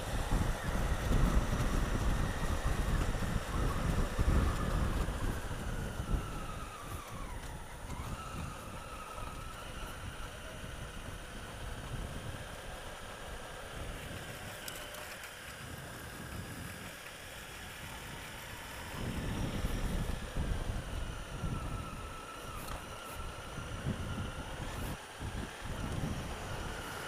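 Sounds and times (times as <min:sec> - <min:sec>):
motorcycle engine running: 0:00.0 - 0:27.0
wind rumble on microphone: 0:00.0 - 0:27.0.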